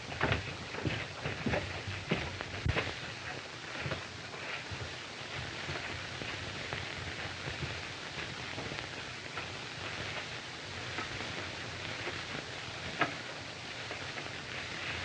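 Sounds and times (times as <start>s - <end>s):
film soundtrack hiss and crackle: 0.0s - 15.0s.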